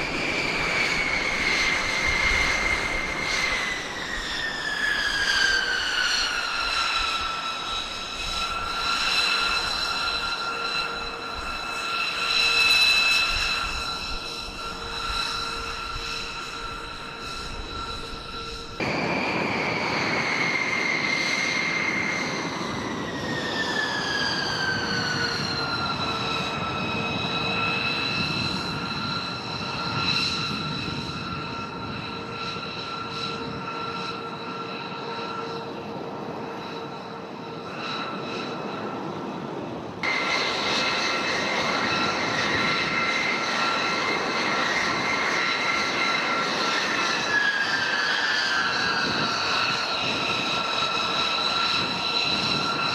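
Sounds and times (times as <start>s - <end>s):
jet engine rush and whine: 0.0s - 52.9s.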